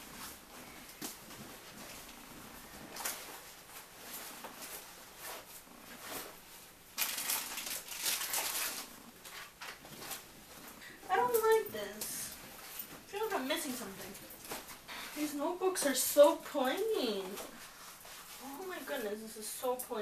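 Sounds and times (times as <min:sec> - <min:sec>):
rustling of packing a bag: 0:00.0 - 0:20.0.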